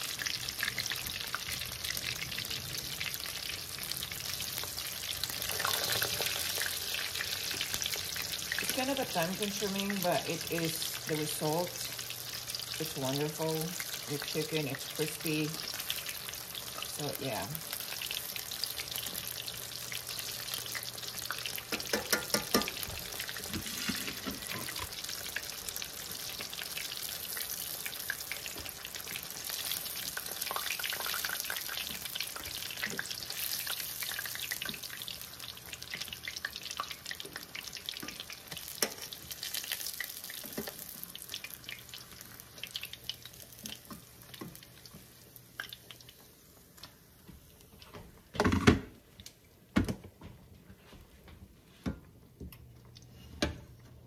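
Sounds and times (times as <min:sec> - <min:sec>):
chicken sizzling in hot oil: 0:00.0 - 0:47.6.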